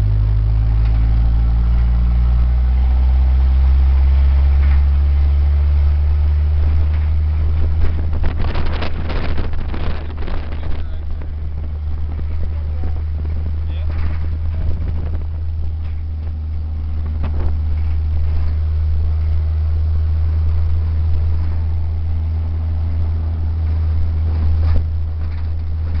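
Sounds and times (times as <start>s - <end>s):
truck engine and tyres rumbling: 0.0s - 26.0s.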